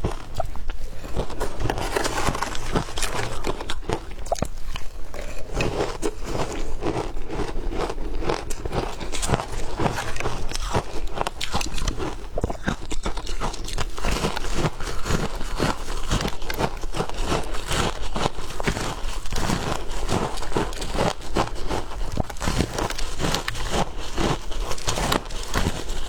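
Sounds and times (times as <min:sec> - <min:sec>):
shaved ice crunching: 0:00.0 - 0:26.0.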